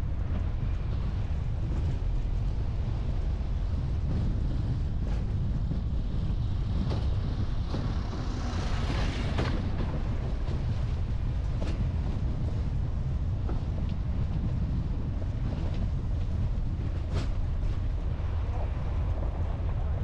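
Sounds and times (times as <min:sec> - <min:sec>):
wind buffeting the microphone: 0:00.0 - 0:20.0.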